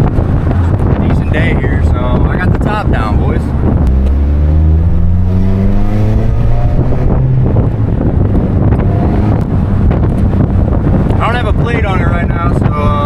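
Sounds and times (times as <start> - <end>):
car engine accelerating: 0.0 - 11.2
wind buffeting microphone: 0.0 - 13.0.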